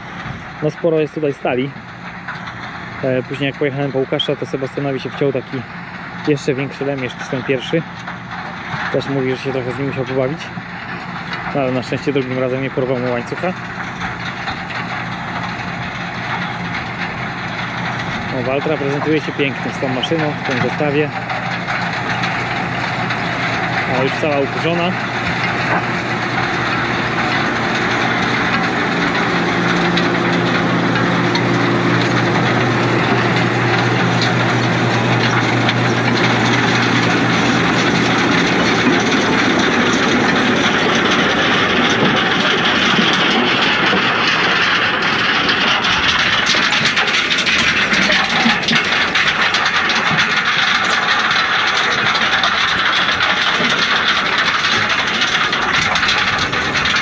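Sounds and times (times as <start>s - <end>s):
tractor engine droning: 0.0s - 57.0s
stones rattling in rotating drum: 6.3s - 57.0s.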